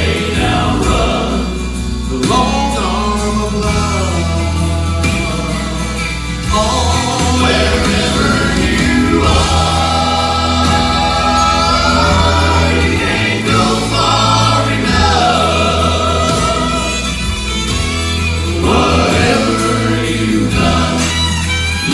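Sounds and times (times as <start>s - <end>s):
instrumental backing with bass: 0.0s - 21.9s
vocal quartet singing in harmony: 0.0s - 21.9s.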